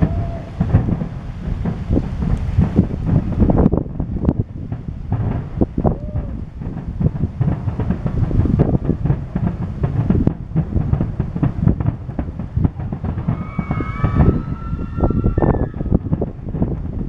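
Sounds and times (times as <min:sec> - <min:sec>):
fireworks booming: 0:00.0 - 0:17.0
high whistling fireworks: 0:00.0 - 0:17.0.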